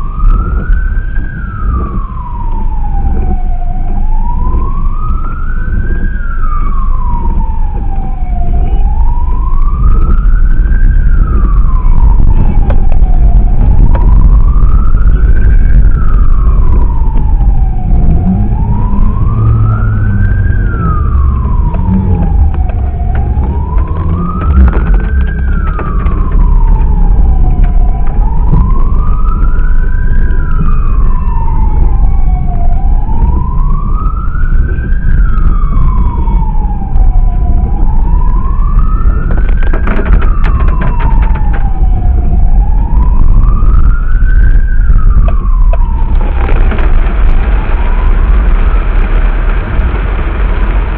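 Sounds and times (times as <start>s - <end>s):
emergency vehicle siren wailing: 0.0s - 50.9s
heavy low rumble: 0.0s - 50.9s.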